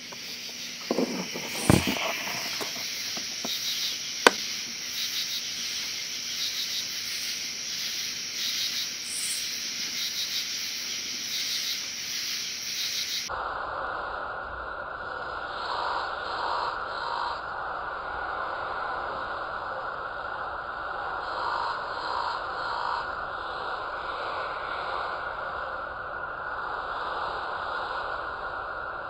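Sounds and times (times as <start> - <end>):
insects calling at night: 0.0 - 29.0.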